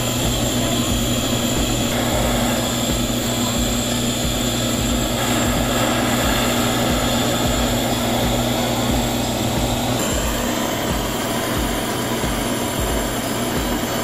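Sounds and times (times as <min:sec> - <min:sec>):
gas burner flame rushing: 0:00.0 - 0:14.0.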